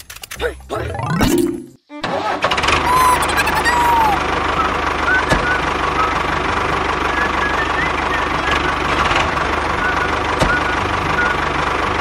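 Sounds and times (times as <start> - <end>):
tractor engine running: 1.5 - 12.0.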